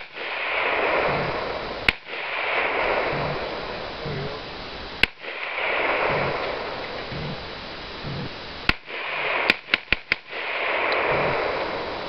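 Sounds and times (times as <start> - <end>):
rifle shots: 0.0 - 4.3, 5.0 - 7.3, 8.7 - 12.0.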